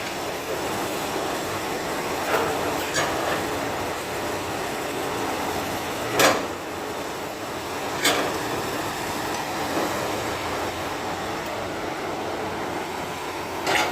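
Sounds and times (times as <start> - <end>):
excavator engine running: 0.0 - 13.9.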